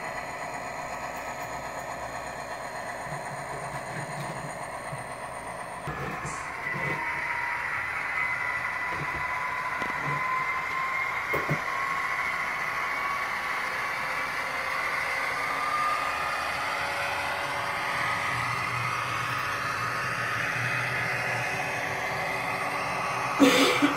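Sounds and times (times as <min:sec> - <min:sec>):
diesel engine drone through small speaker: 0:00.0 - 0:23.9.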